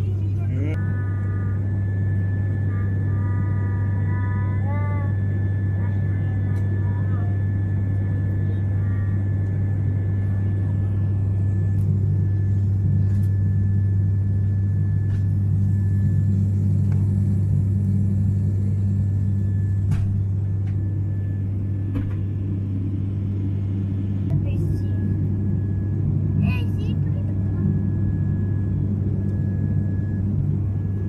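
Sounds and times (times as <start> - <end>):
airliner engine drone: 0.0 - 31.0.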